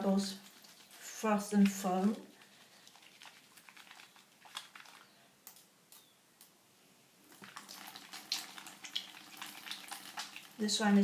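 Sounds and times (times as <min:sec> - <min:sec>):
soap lather crackling between hands: 0:00.0 - 0:06.0, 0:07.3 - 0:10.6.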